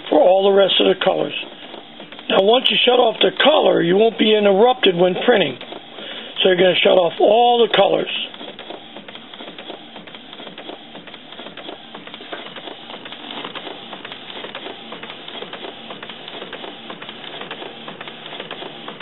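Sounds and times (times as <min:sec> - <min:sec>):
inkjet printer whirring: 0:00.0 - 0:19.0.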